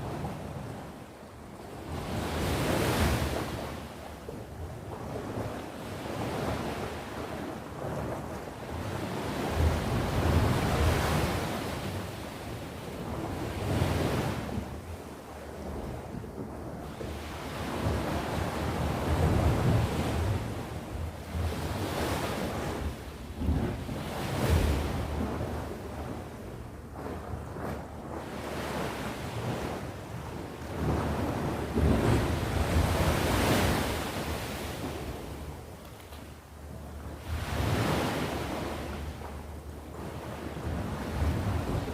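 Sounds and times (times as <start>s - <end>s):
sea waves washing onto shore: 1.8s - 41.9s.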